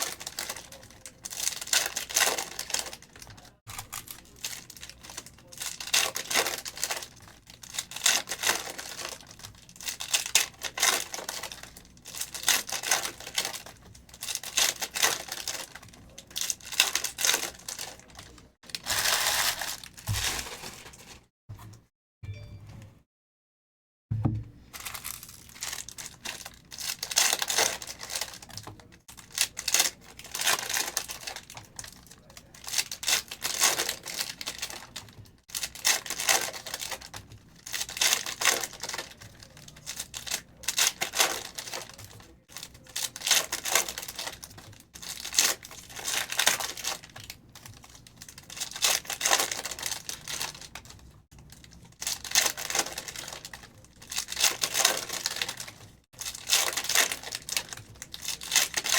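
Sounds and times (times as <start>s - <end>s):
foil packs tearing and crinkling: 0.0s - 21.3s, 24.8s - 58.9s.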